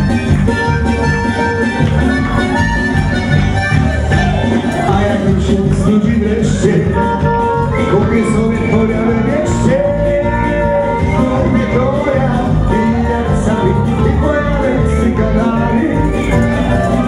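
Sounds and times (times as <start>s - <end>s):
loud dance music: 0.0s - 17.0s.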